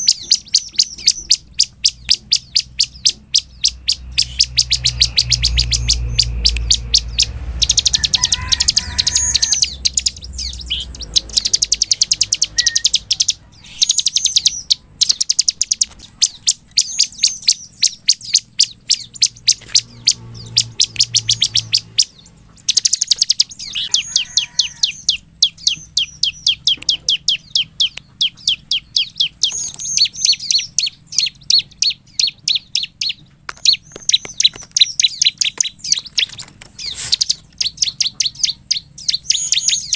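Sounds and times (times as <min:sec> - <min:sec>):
bird singing high repeated notes: 0:00.0 - 0:39.9
faint low rumble: 0:00.0 - 0:39.9.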